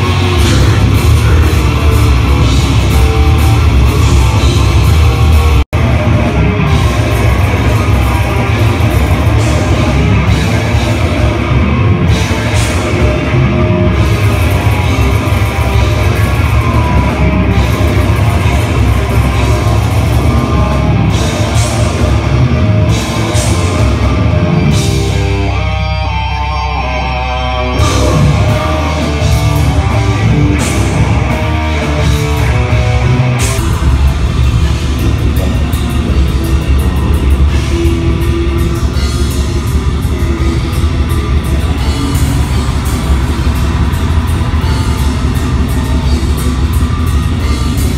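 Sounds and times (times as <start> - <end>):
heavy metal band playing live: 0.0 - 47.9.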